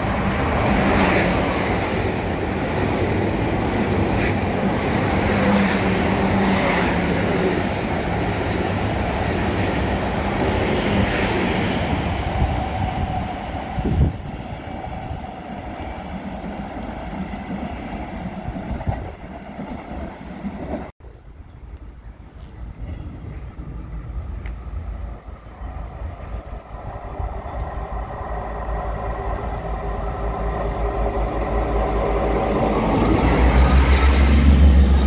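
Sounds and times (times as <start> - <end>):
train motors humming: 0.0 - 35.0
train wheels rumbling on track: 0.0 - 35.0.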